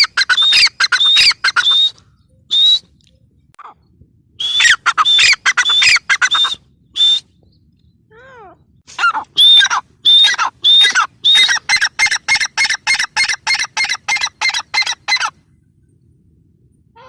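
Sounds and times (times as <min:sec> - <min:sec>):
bird calling: 0:00.0 - 0:15.4.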